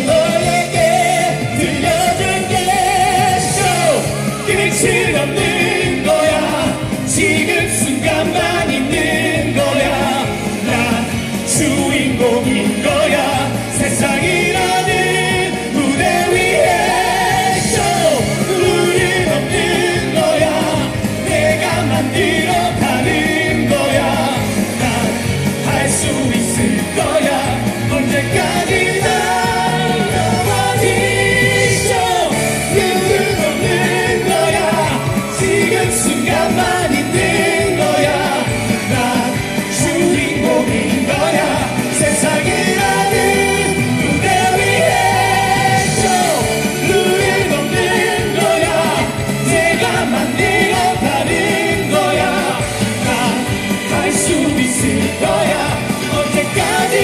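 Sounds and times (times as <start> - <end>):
amplified backing music: 0.0 - 57.0
men singing pop song: 0.0 - 57.0.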